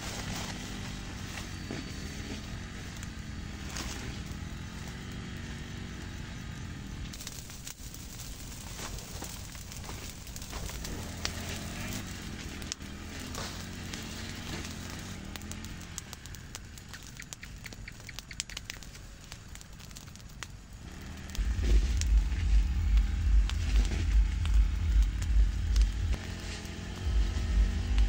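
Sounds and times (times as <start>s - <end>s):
dry brush crackling in fire: 0.0s - 28.0s.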